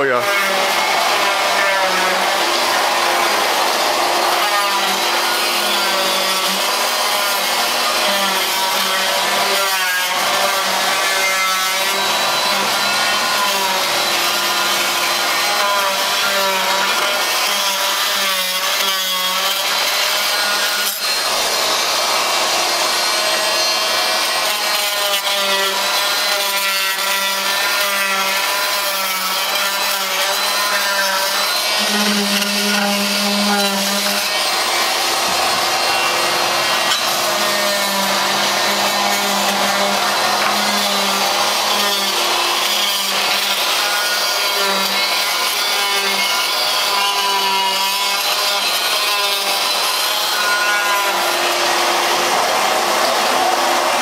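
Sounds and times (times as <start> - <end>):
shop vacuum running: 0.0 - 54.0.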